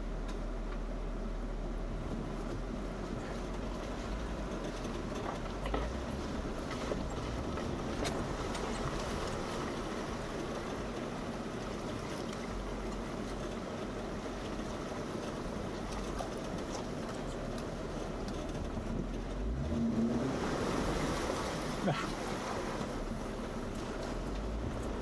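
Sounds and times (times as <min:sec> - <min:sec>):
vehicle engine running: 0:00.0 - 0:25.0
rushing water: 0:02.0 - 0:25.0.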